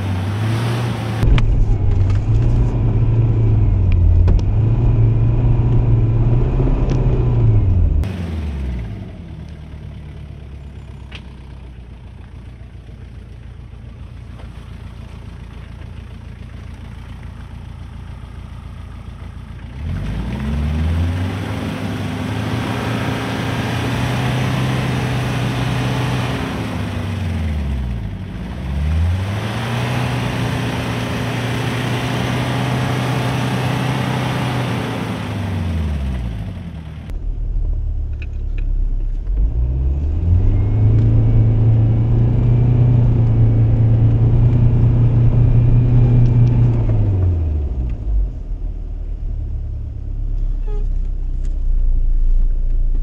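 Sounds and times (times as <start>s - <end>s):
diesel engine revving: 0.0s - 12.0s, 17.1s - 50.8s.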